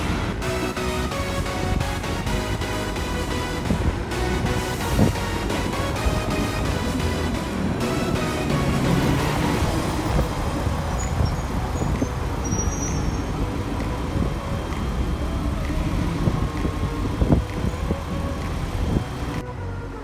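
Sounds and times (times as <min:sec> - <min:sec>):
bus engine passing by: 0:00.0 - 0:20.0.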